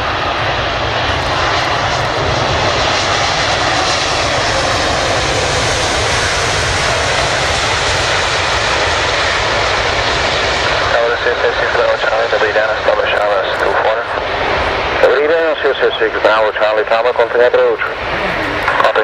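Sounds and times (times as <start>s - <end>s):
jet engines passing: 0.0s - 19.0s.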